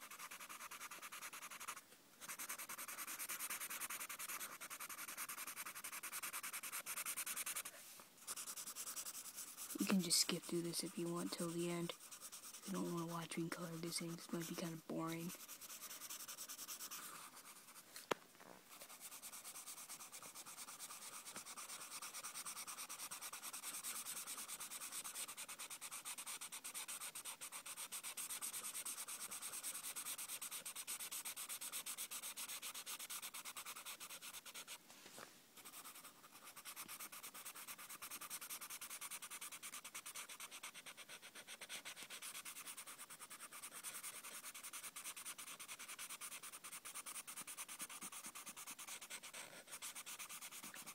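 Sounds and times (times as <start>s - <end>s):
marker scribbling on paper: 0.0s - 17.8s, 18.7s - 34.8s, 35.6s - 50.9s.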